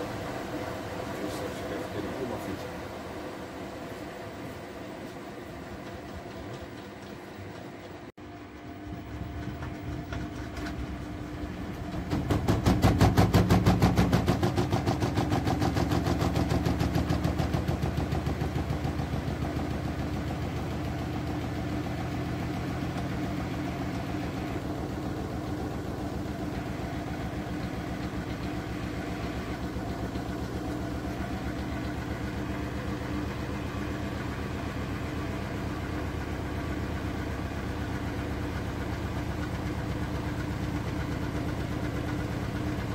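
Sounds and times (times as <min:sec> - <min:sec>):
washing machine drum spinning: 0:00.0 - 0:42.9.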